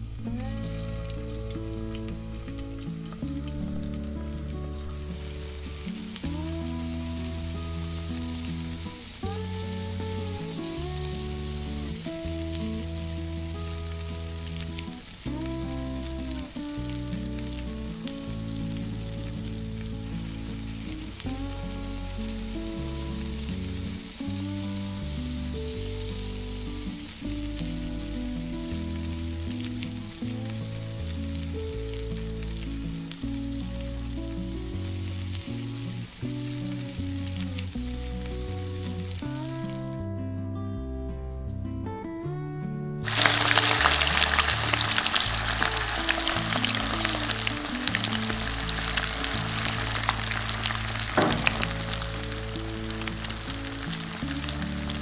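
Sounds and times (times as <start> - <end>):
chili sizzling in frying pan: 0.0 - 39.9, 43.0 - 55.0
background music with bass line: 0.0 - 55.0.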